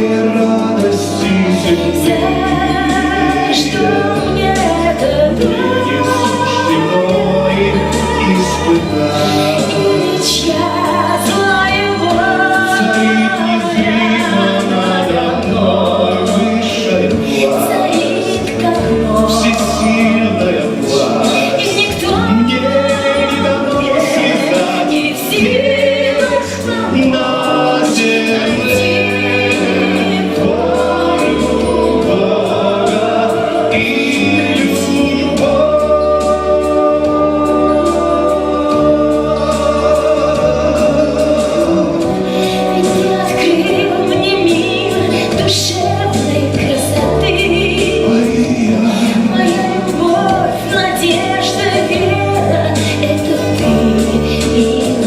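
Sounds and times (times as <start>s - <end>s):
instrumental backing: 0.0s - 55.0s
people singing: 0.0s - 55.0s.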